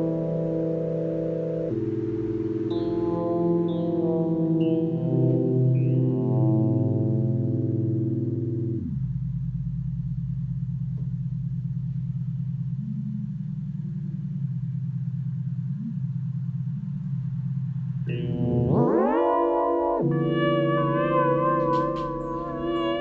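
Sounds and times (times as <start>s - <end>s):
faint higher synth notes: 0.0s - 23.0s
low synthesizer drone: 0.0s - 23.0s.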